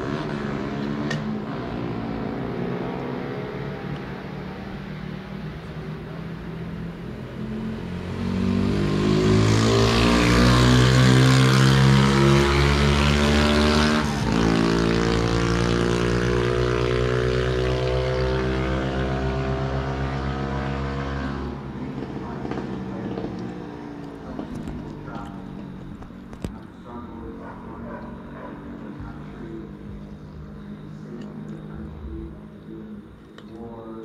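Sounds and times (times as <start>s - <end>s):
car accelerating past: 0.0s - 6.1s, 7.2s - 32.5s.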